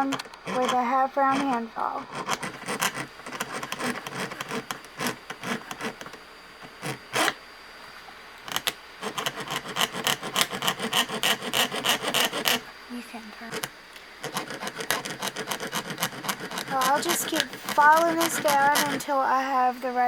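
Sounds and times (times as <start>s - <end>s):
hand file rasping on metal: 0.0s - 7.4s, 8.5s - 12.6s, 13.5s - 19.2s.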